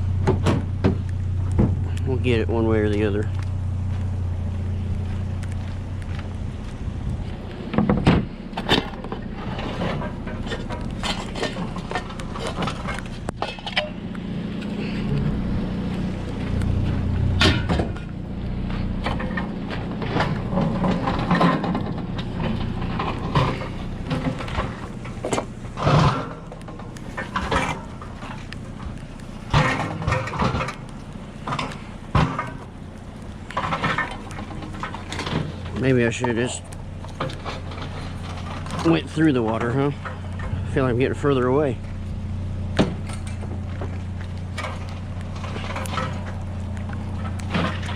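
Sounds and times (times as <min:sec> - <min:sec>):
knocks clanks and scrapes: 0:00.0 - 0:47.9
vehicle engine idling: 0:00.0 - 0:47.9.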